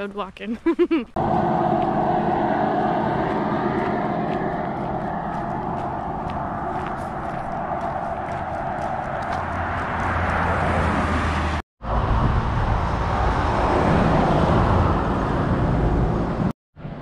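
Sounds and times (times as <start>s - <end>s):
highway traffic passing: 0.0s - 17.0s.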